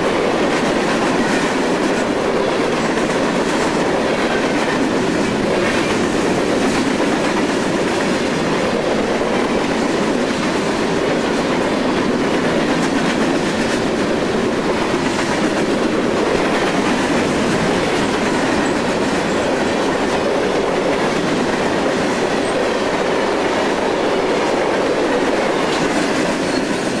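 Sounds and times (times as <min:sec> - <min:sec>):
freight train wheels on rail: 0:00.0 - 0:27.0.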